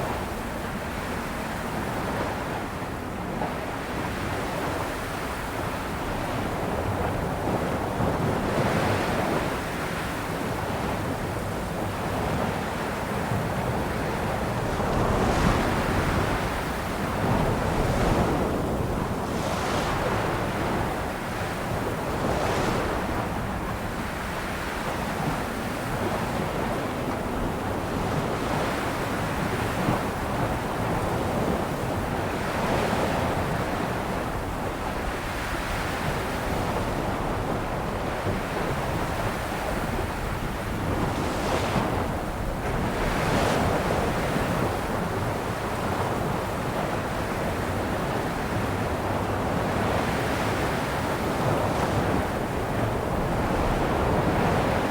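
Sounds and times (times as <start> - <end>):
ocean waves washing onto shore: 0.0 - 54.9.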